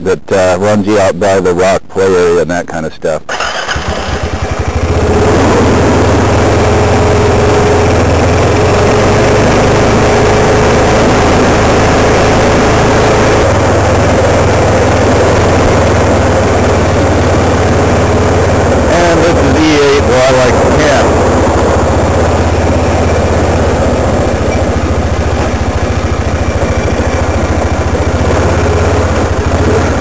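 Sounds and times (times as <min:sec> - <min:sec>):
vehicle engine running: 0:03.3 - 0:30.0.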